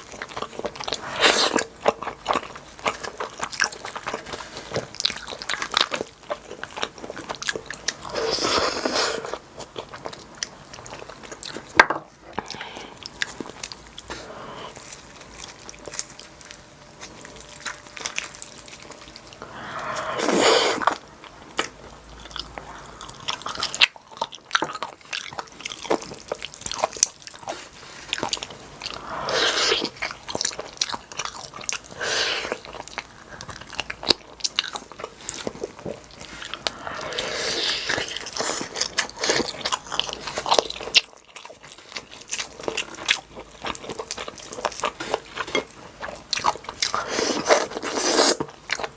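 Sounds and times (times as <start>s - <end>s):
chewing and biting: 0.0s - 48.9s.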